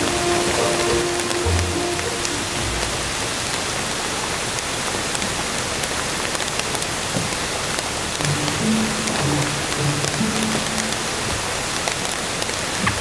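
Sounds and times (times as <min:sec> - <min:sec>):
heavy rain on wooden deck: 0:00.0 - 0:13.0
raindrops ticking: 0:00.0 - 0:13.0.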